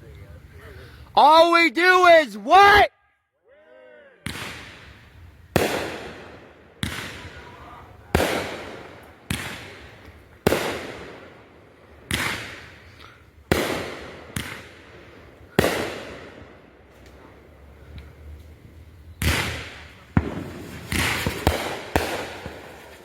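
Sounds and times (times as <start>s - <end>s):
fireworks booming: 4.3s - 23.0s.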